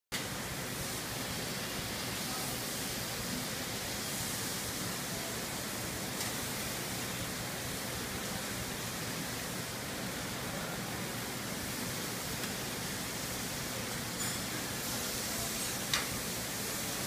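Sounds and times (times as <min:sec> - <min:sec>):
kitchen background hiss: 0:00.1 - 0:17.0.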